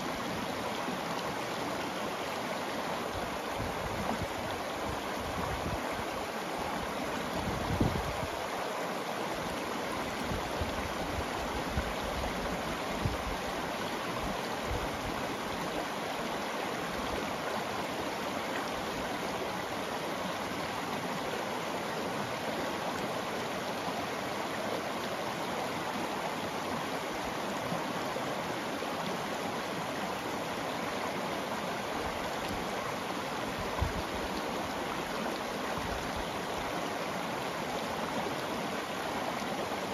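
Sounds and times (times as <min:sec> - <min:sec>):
river rippling over cobbles: 0:00.0 - 0:39.9.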